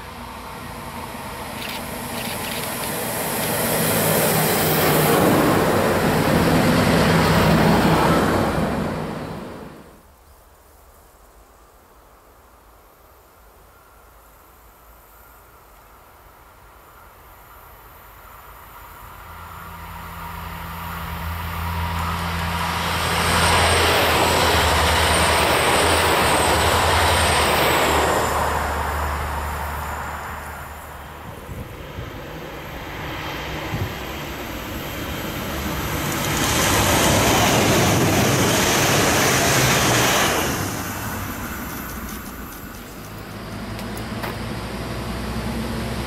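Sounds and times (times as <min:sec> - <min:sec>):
electric train passing: 0:00.0 - 0:10.1, 0:13.1 - 0:46.0.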